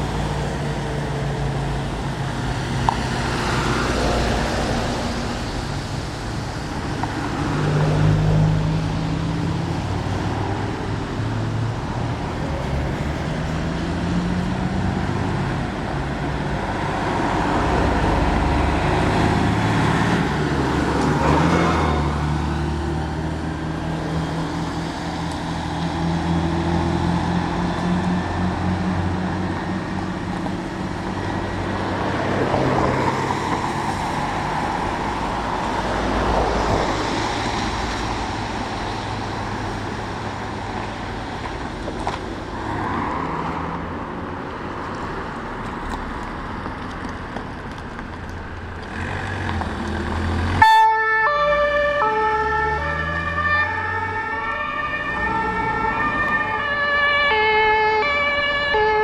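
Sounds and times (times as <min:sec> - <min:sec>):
vehicles driving past: 0:00.0 - 0:59.0.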